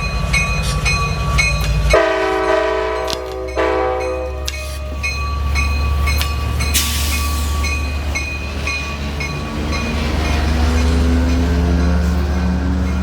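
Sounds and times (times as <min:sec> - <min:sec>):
train passing rumble: 0:00.0 - 0:13.0.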